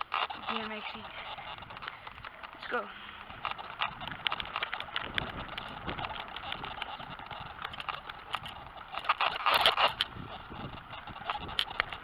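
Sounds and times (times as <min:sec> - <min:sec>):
bike tyre noise with rattles: 0:00.0 - 0:12.0
wind buffeting microphone: 0:00.0 - 0:12.0.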